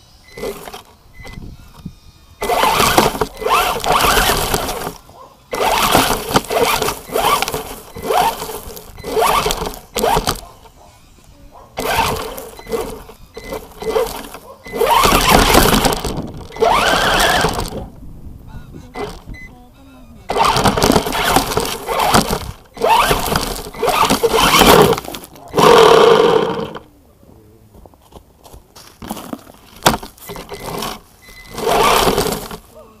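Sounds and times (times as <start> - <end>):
electric motor whining: 0.0 - 18.0, 18.8 - 19.4, 20.2 - 26.9, 29.9 - 32.8
tyres crunching leaves: 0.4 - 1.0, 2.4 - 17.9, 20.3 - 26.8, 27.6 - 33.0.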